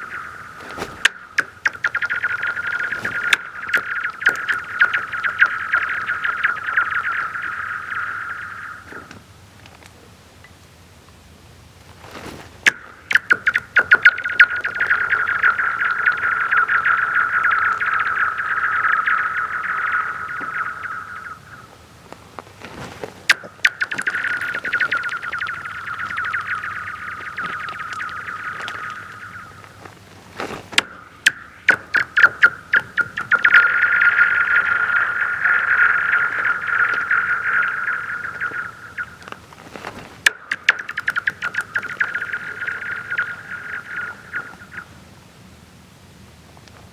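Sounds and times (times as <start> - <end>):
ice ringing with rapid ticks: 0.0 - 9.2, 12.6 - 21.8, 22.5 - 44.9.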